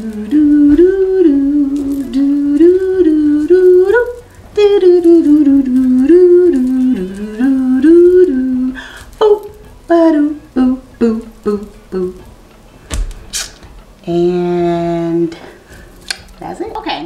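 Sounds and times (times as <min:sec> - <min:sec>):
woman singing wordless tune: 0:00.0 - 0:12.6, 0:14.0 - 0:15.7.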